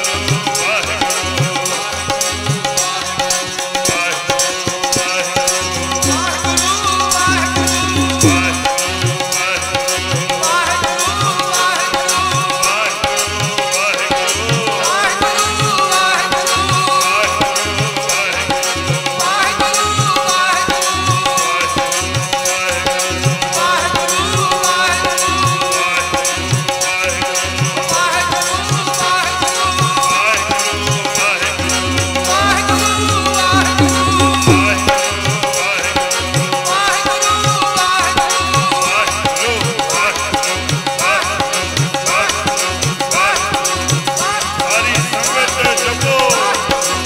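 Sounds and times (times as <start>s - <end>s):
harmonium melody over drone: 0.0s - 47.0s
tabla beat: 0.0s - 47.0s.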